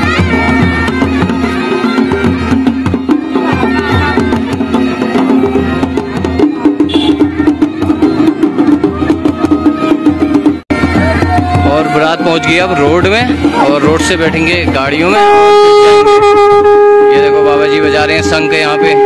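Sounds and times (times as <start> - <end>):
dhol and damau drums beating: 0.0 - 19.0
steady bagpipe drone: 0.0 - 19.0.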